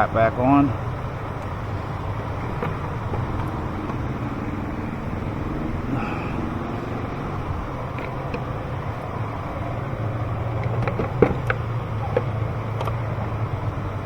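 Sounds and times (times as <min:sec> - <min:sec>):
clicks and knocks of engine parts: 0:00.0 - 0:14.0.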